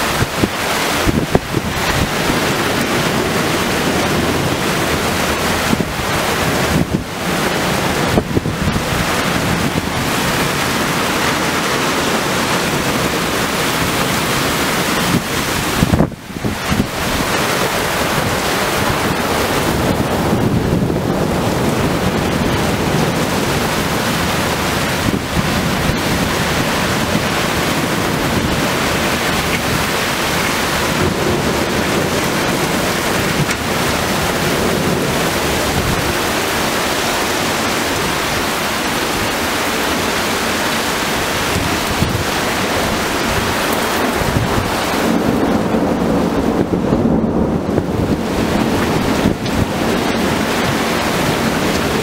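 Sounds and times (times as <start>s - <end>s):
heavy rain: 0.0s - 52.0s
storm wind: 0.0s - 52.0s
wind buffeting microphone: 0.0s - 52.0s.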